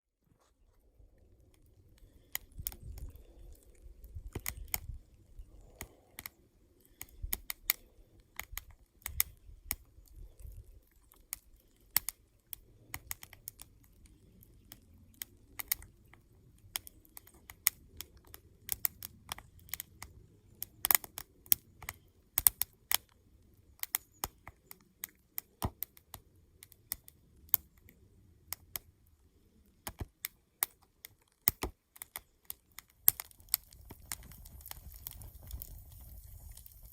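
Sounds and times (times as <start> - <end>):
campfire crackling: 0.5 - 36.9.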